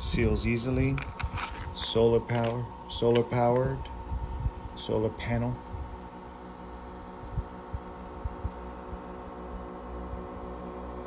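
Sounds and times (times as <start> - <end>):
aerator pump humming: 0.0 - 11.0.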